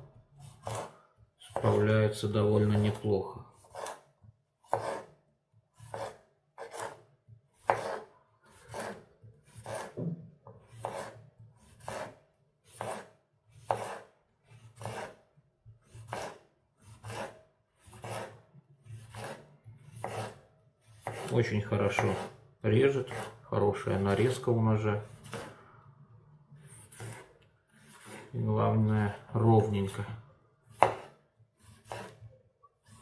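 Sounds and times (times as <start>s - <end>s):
knife slicing cucumber on board: 0.4s - 1.9s, 2.6s - 22.4s, 23.0s - 23.4s, 25.1s - 25.6s, 26.7s - 30.0s, 30.7s - 33.0s.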